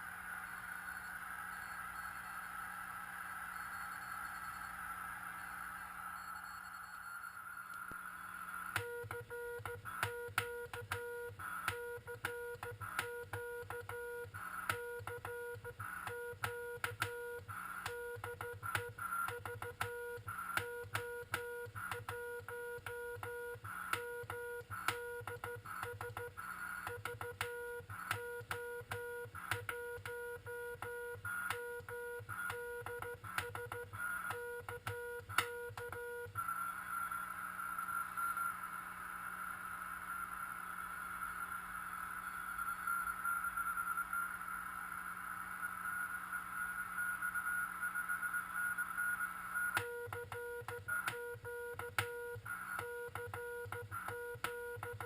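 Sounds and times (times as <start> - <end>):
receiver hiss: 0.0 - 55.0.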